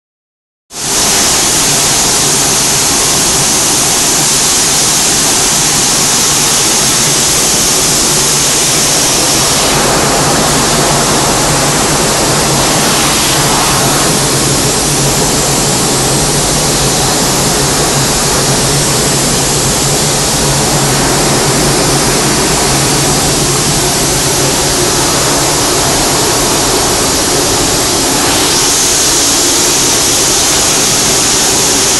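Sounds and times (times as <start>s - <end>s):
liquid sprays rushing: 0.8s - 31.9s
low machine hum: 0.9s - 31.9s.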